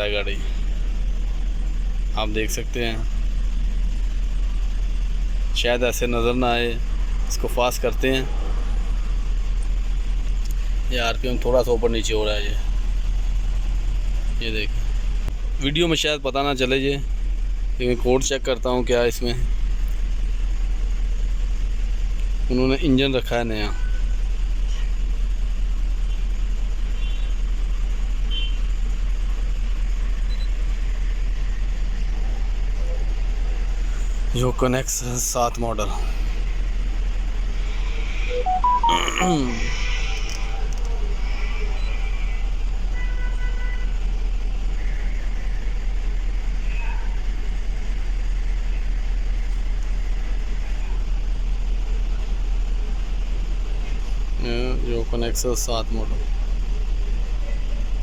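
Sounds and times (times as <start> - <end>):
car engine idling rough: 0.0 - 38.4, 39.4 - 58.0.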